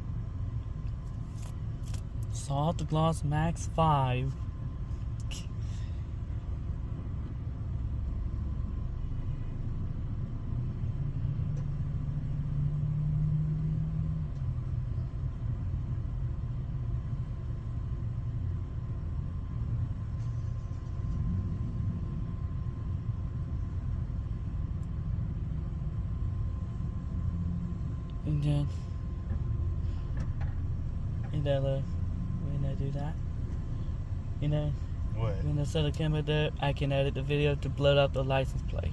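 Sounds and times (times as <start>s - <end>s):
car wash hum: 0.0s - 12.6s, 14.2s - 38.9s
car wash mechanical rumble: 0.0s - 12.8s, 14.2s - 38.9s.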